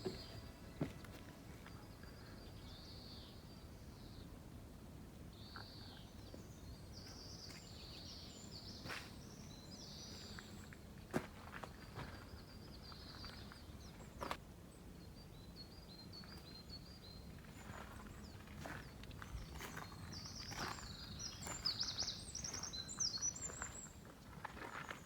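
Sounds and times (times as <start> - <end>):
birds chirping: 0.0 - 4.3, 5.4 - 10.8, 11.4 - 14.4, 15.2 - 24.1
low background noise: 0.0 - 25.0.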